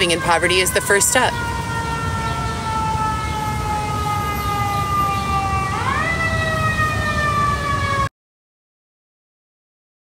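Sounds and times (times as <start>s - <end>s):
siren wailing: 0.0s - 8.1s.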